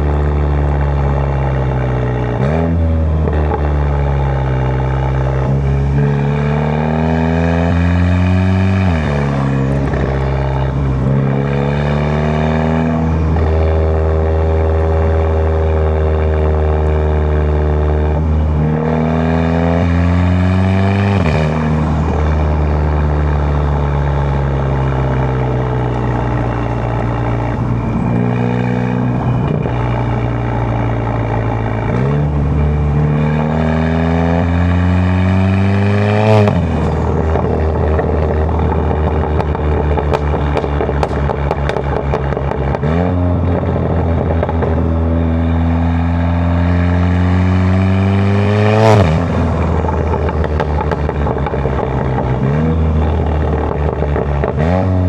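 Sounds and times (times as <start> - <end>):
car engine accelerating hard: 0.0 - 55.0
exhaust crackles: 0.0 - 55.0.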